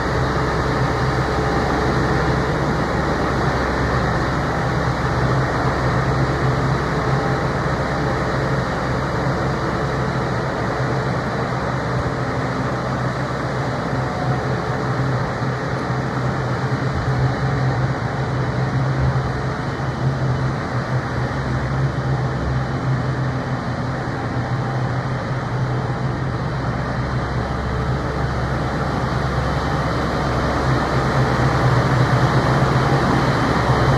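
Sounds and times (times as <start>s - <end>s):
diesel engine drone: 0.0s - 33.9s.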